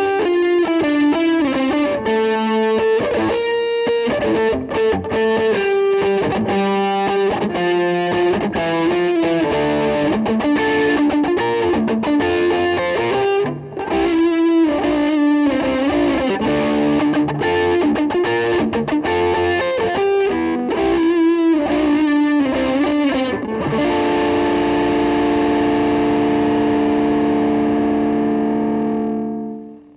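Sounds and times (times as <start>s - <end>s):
electric guitar melody: 0.0s - 29.9s.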